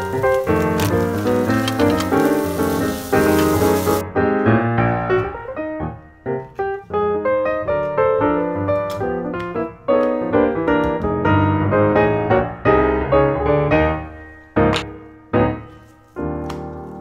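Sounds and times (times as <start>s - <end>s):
piano notes: 0.0s - 17.0s.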